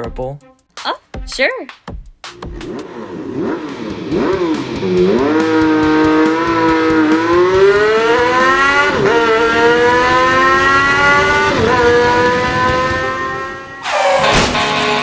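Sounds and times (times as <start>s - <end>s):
engine accelerating hard: 2.4s - 15.0s.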